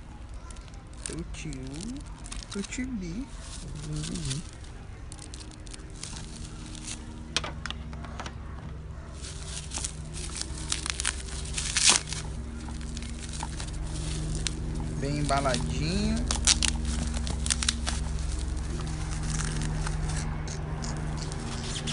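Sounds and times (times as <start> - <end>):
plastic packaging crinkling: 0.0 - 7.3, 9.1 - 21.9
steady low hum: 0.0 - 21.9
packaging being torn: 0.5 - 7.1, 9.2 - 21.9.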